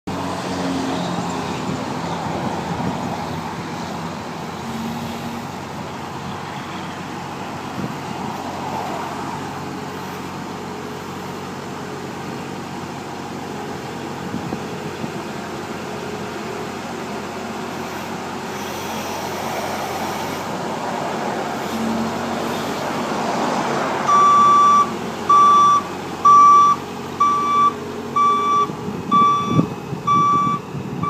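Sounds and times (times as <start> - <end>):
diesel engine running: 0.1 - 31.0.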